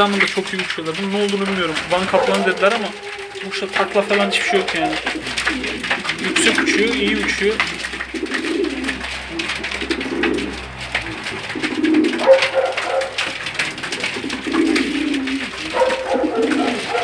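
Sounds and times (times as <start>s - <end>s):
beaks pecking on cardboard: 0.0s - 17.0s
pigeons cooing: 0.0s - 17.0s.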